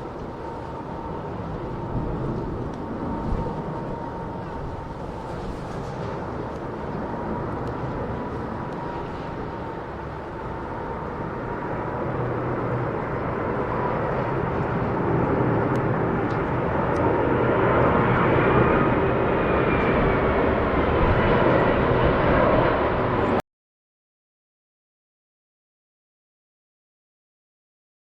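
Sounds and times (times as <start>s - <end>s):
jet engines rumbling: 0.0s - 23.4s.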